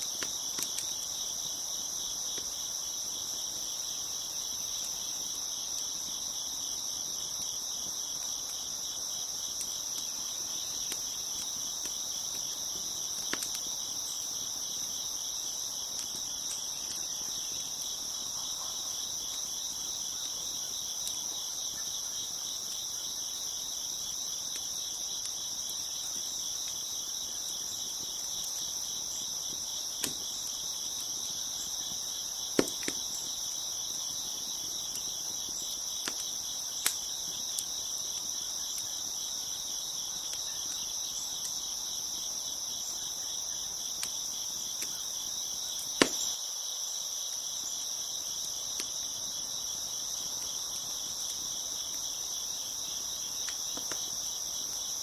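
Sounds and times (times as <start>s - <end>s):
wood fire popping: 0.0s - 42.4s, 43.6s - 46.4s, 48.3s - 54.8s
crickets chirping: 0.0s - 55.0s.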